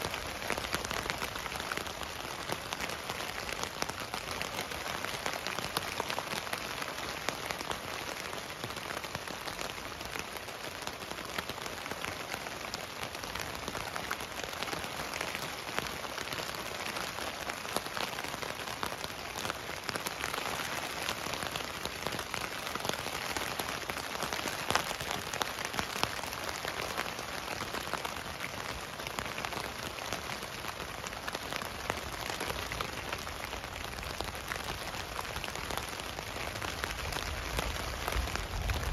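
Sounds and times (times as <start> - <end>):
rain falling on a tent: 0.0 - 38.9.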